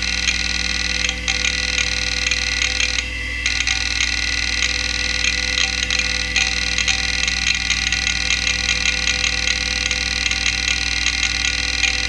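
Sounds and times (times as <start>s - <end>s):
hard drive seeking chatter: 0.0s - 12.0s
hard drive spindle hum: 0.0s - 12.0s.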